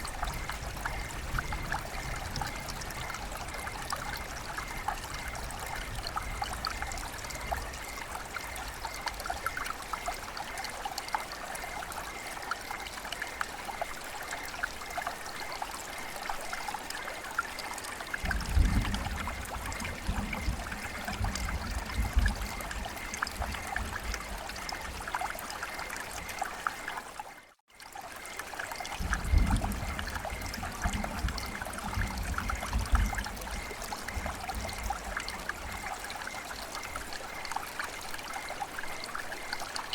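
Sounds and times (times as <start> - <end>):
rain falling: 0.0 - 39.9
small drips: 0.0 - 39.9
water trickling: 0.0 - 39.9.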